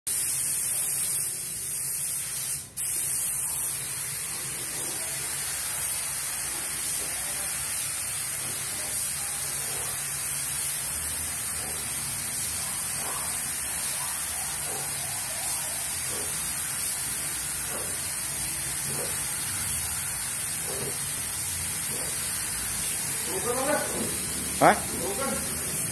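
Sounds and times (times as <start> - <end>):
paint spray gun hissing: 0.1 - 25.9.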